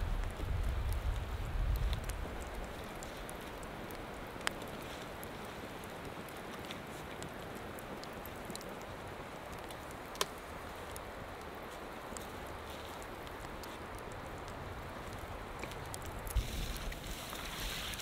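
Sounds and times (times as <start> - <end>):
light rain falling: 0.0 - 18.0.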